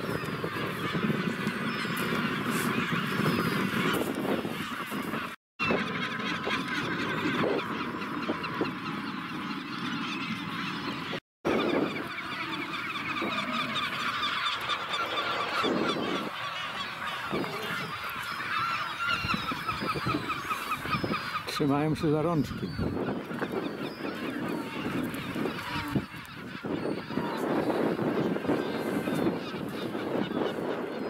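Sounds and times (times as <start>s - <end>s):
penguin colony calling: 0.0s - 31.0s.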